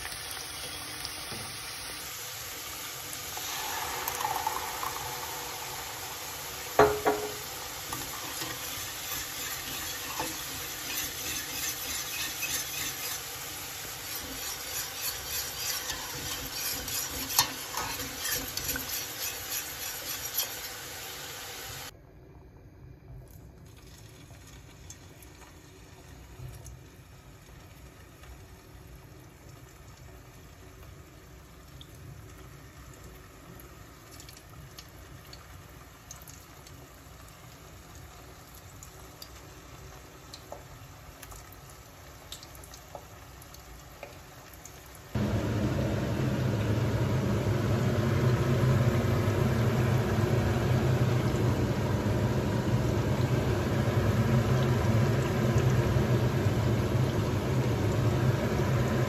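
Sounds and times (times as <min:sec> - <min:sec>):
meatballs sizzling in oil: 0:00.0 - 0:22.0, 0:23.8 - 0:59.0.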